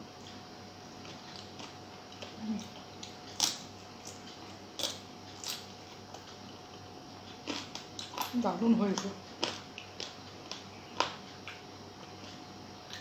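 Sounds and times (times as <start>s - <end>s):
person chewing food: 0.2s - 8.4s, 9.0s - 13.0s.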